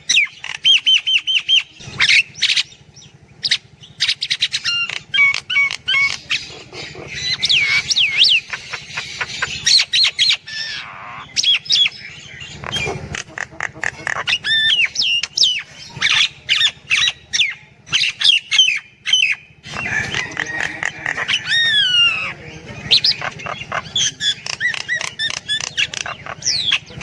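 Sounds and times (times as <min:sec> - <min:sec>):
myna calling: 0:00.0 - 0:27.0.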